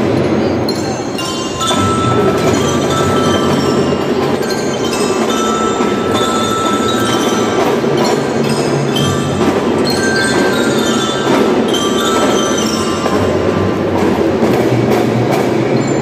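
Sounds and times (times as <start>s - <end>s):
bell melody: 0.0s - 16.0s
marching drum beats: 0.0s - 16.0s.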